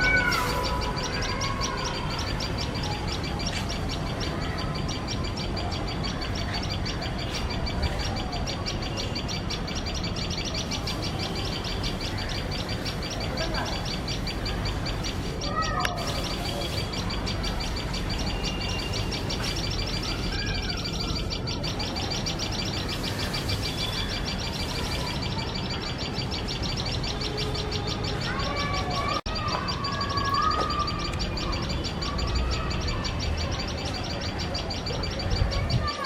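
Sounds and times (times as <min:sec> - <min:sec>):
lower bird calls: 0:00.0 - 0:36.0
shrill bird alarm calls: 0:00.0 - 0:36.0.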